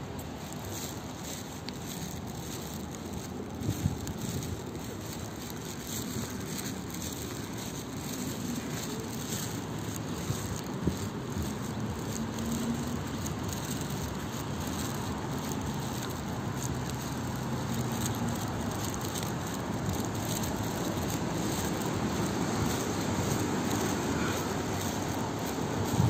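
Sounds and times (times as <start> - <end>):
distant road traffic hum: 0.0 - 26.0
faint ticks: 0.1 - 26.0.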